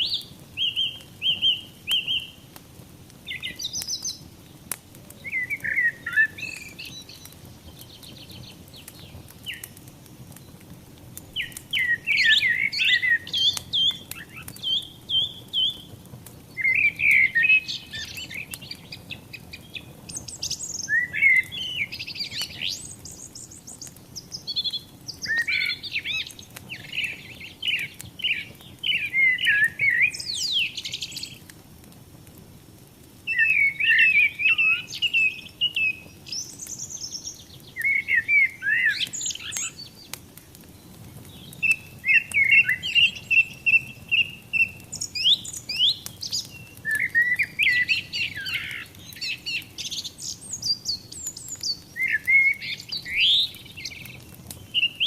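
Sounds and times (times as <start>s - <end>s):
songbirds singing: 0.0s - 31.5s, 33.3s - 55.0s
wood fire crackling: 0.0s - 55.0s.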